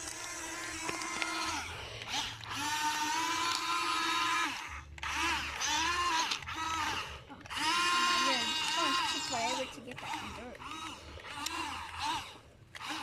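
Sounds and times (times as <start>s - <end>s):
toy electric motors whining: 0.0s - 13.0s.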